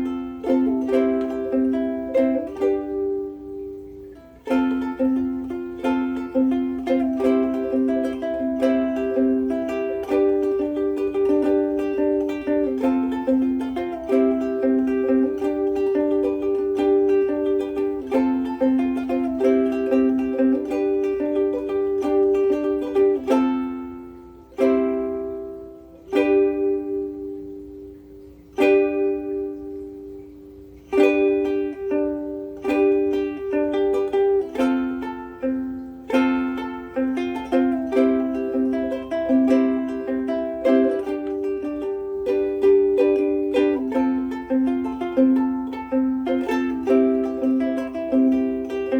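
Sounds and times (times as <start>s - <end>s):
ukulele strumming chords: 0.0s - 48.9s.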